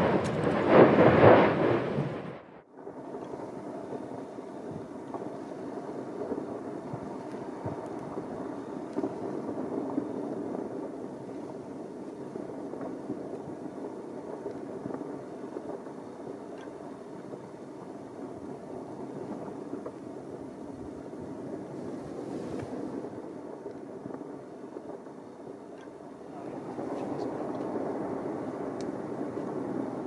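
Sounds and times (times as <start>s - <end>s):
faint crackles: 0.0s - 30.0s
lava fountain rushing: 3.1s - 30.0s.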